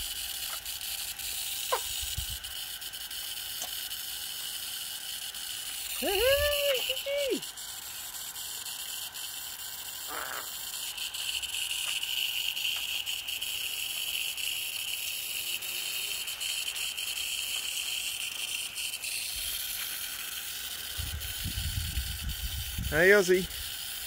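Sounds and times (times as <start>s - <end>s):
water spray hissing: 0.0s - 24.0s.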